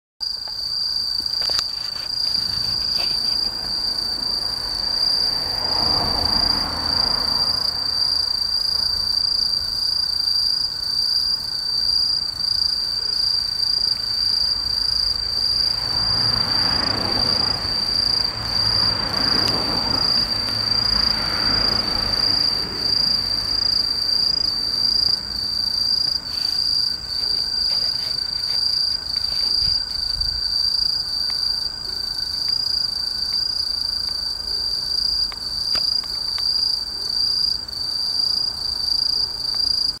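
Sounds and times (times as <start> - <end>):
crickets trilling: 0.2 - 40.0.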